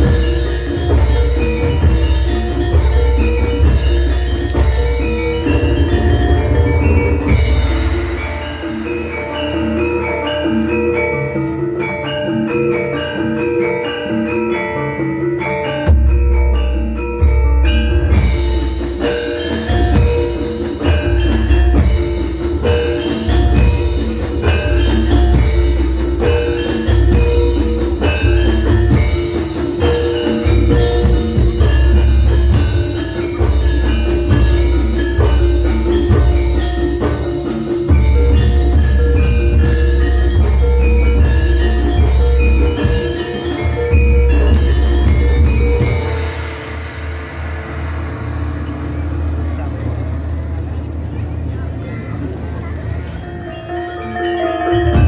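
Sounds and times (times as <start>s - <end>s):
heavy low drum beats: 0.0s - 13.5s, 15.9s - 53.0s
mallet instruments ringing: 0.0s - 55.0s.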